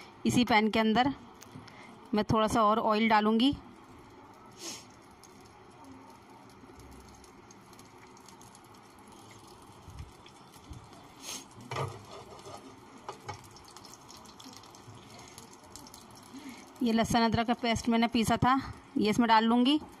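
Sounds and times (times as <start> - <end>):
oil sizzling in frying pan: 0.5 - 20.0.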